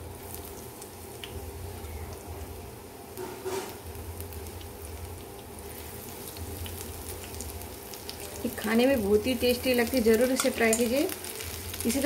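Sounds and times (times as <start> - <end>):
onion rings sizzling in oil: 0.0 - 12.0.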